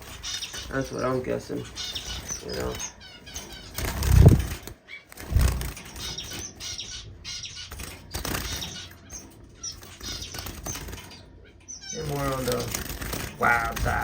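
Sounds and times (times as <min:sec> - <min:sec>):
small bird chirps: 0:00.0 - 0:12.8
birds fluttering in a cage: 0:00.0 - 0:14.0.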